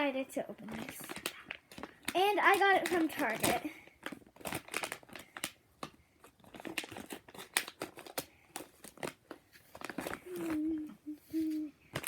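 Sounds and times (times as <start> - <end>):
packaging crinkling and tearing: 0.6 - 10.8.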